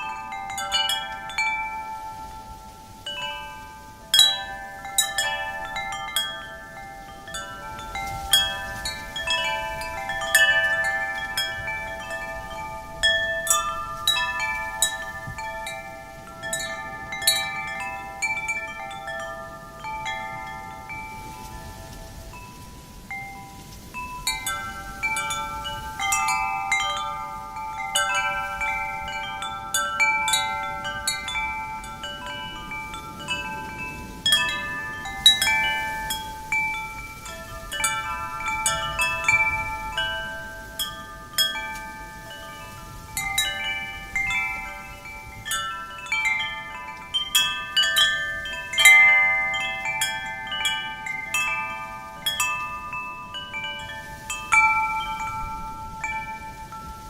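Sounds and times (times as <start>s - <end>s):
faint wind rush: 0.0s - 57.0s
wind chimes ringing: 0.0s - 57.0s.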